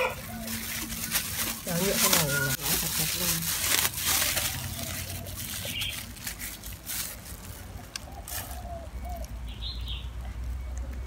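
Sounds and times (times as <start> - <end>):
plastic gloves rustling and clicking: 0.0 - 9.4.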